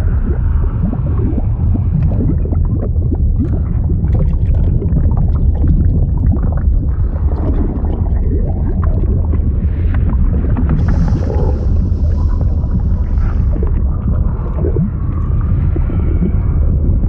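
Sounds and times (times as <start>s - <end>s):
liquid bubbling and gurgling: 0.0s - 17.0s
low rumble: 0.0s - 17.0s.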